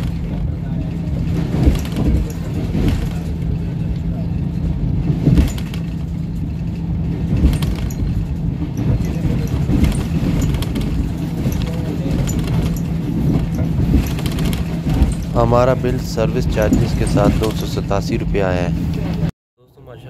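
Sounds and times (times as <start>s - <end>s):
light rattles and clinks: 0.0s - 19.2s
constant hum: 0.0s - 20.0s
train low rumble: 0.0s - 20.0s.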